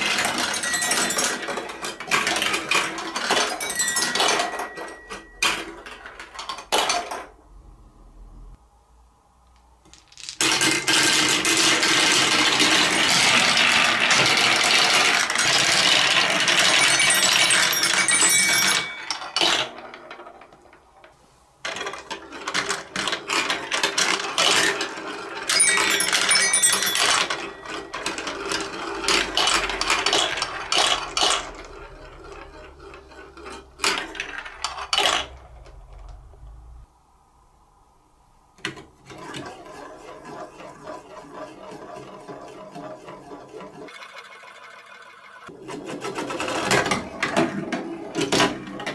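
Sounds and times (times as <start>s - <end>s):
plastic balls clattering down tracks: 0.0s - 7.4s, 9.6s - 36.2s, 38.6s - 48.9s.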